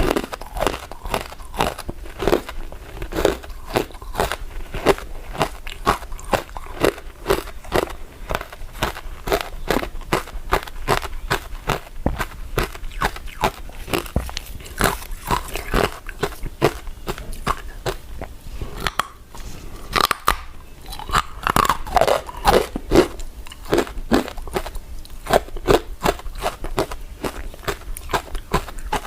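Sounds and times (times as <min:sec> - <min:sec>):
person chewing soft food: 0:00.0 - 0:29.0.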